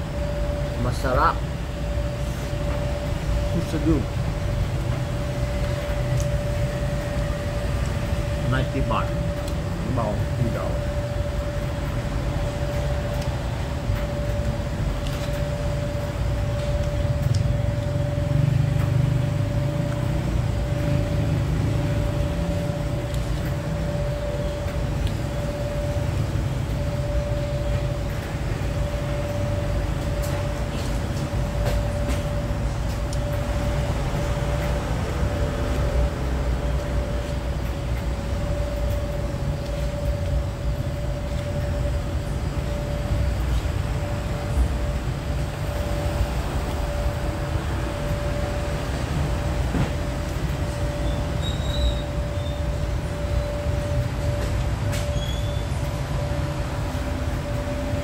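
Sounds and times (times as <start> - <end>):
constant hum: 0.0 - 58.0
street traffic rumble: 0.0 - 58.0.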